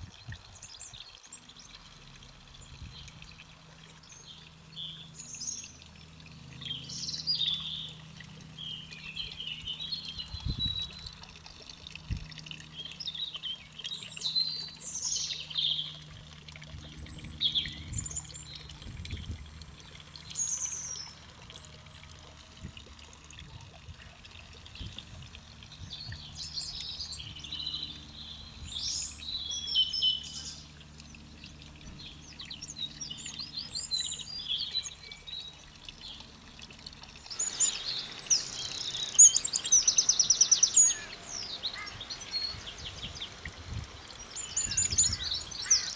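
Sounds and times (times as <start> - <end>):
songbirds chirping and warbling: 0.0 - 45.9
low background rumble: 1.7 - 45.9.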